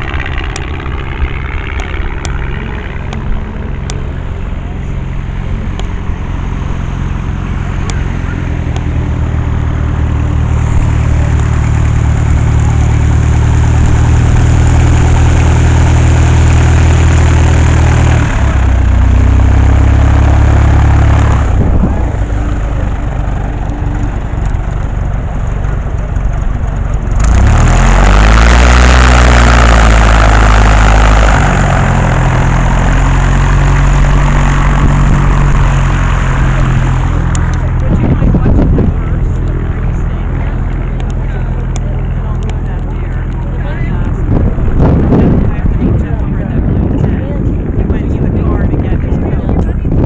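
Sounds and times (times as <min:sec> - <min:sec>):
propeller aircraft engine running: 0:00.0 - 0:50.0.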